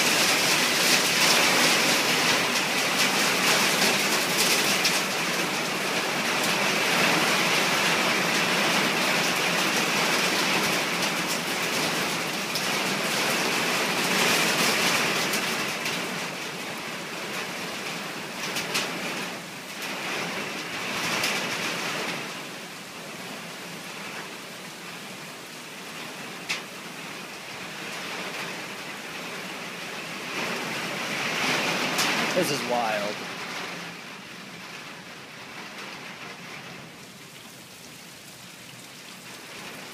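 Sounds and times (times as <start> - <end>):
heavy rain pouring on concrete: 0.0 - 39.9.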